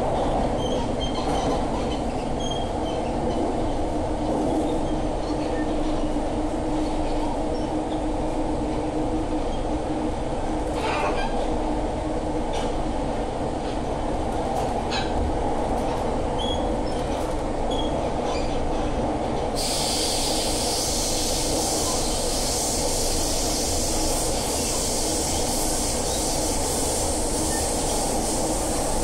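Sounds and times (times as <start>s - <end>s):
metro car running rumble: 0.0s - 29.0s.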